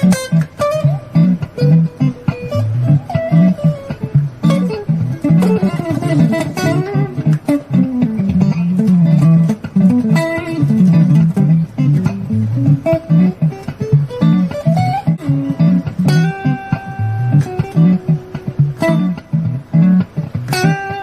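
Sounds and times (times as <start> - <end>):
solo guitar playing: 0.0 - 21.0.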